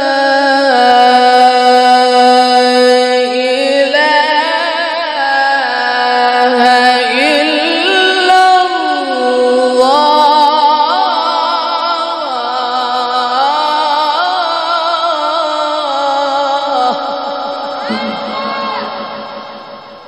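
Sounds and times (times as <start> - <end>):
man reciting melodically into microphone: 0.0 - 19.9.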